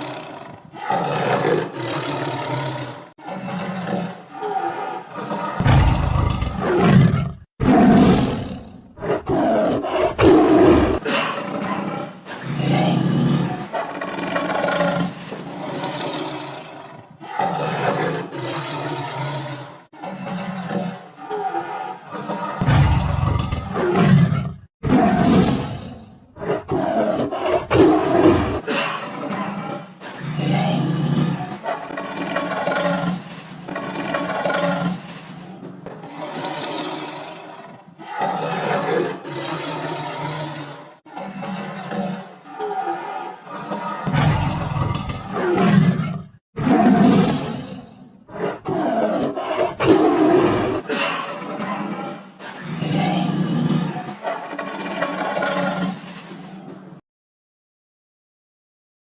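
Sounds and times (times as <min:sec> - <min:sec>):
tiger roaring: 0:00.0 - 0:56.9.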